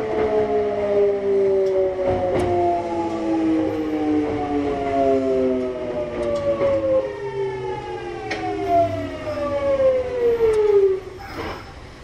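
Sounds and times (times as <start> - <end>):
electric train inverter whine: 0.0 - 12.0.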